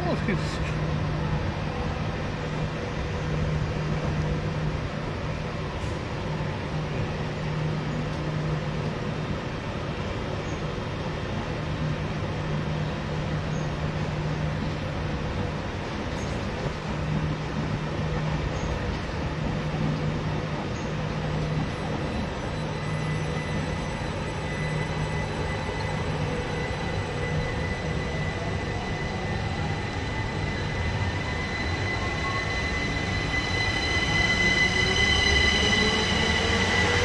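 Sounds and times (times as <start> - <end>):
electric train hum: 0.0 - 37.0.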